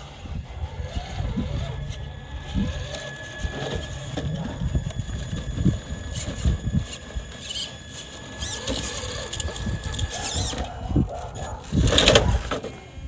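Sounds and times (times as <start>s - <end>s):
electric motor whirring: 0.0s - 13.0s
tires scraping against stones: 0.0s - 13.0s.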